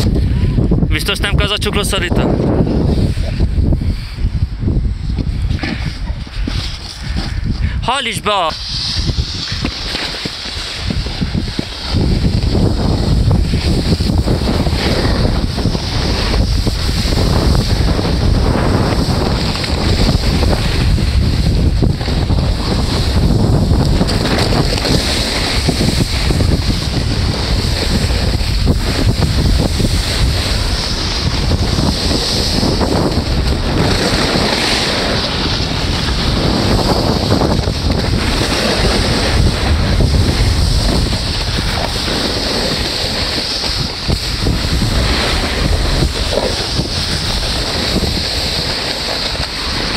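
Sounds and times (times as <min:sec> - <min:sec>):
snowboard sliding over snow: 0:00.0 - 0:49.9
wind buffeting microphone: 0:00.0 - 0:49.9.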